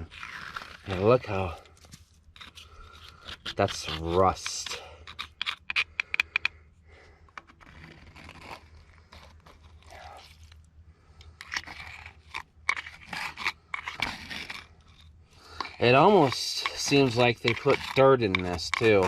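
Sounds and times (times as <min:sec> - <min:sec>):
screwdriver scraping rust: 0:00.0 - 0:06.6, 0:07.3 - 0:10.6, 0:11.3 - 0:19.0.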